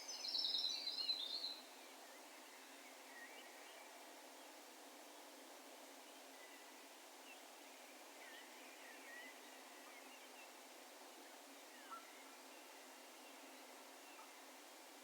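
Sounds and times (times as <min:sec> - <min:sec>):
open field hiss: 0:00.0 - 0:15.0.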